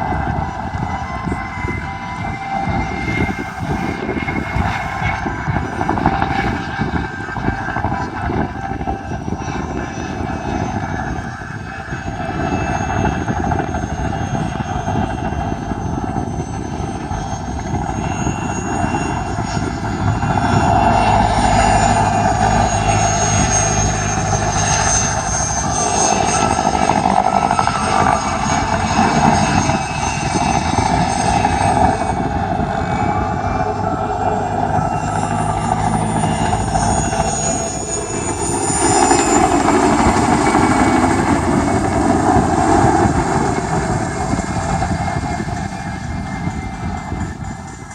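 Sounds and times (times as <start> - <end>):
helicopter engines whining: 0.0 - 47.9
helicopter rotor noise: 0.0 - 47.9.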